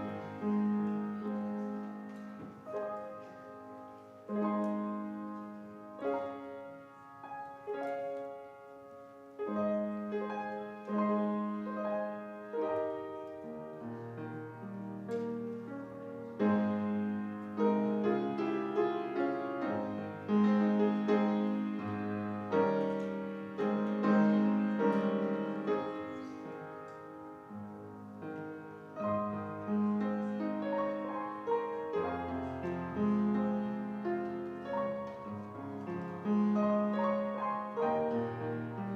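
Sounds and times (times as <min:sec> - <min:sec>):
slow gentle solo piano: 0:00.0 - 0:38.9.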